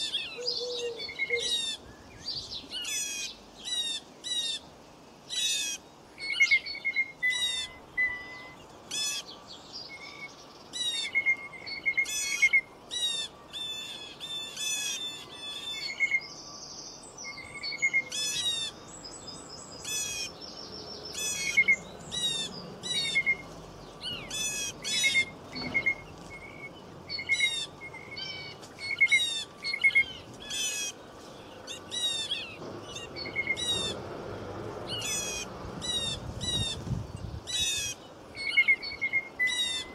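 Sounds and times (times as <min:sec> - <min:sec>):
birds chirping and singing: 0:00.0 - 0:39.9
faint background hiss: 0:00.0 - 0:39.9.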